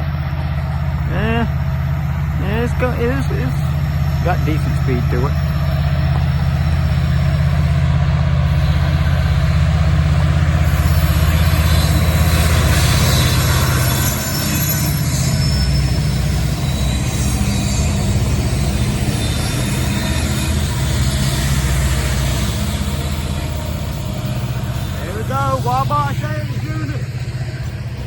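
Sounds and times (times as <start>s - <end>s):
high wheel squeal: 0.0s - 28.0s
train wheels rumbling on rail: 0.0s - 28.0s.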